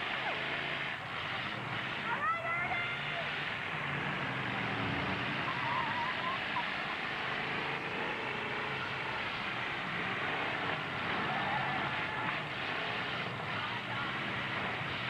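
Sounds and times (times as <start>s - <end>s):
arena crowd noise: 0.0s - 15.0s
truck engines running: 0.0s - 15.0s.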